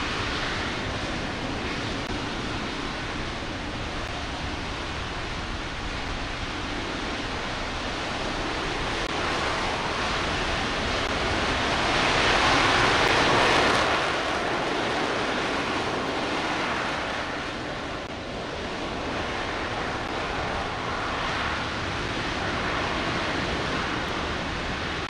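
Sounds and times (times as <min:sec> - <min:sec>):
rocket engine roaring: 0:00.0 - 0:25.0.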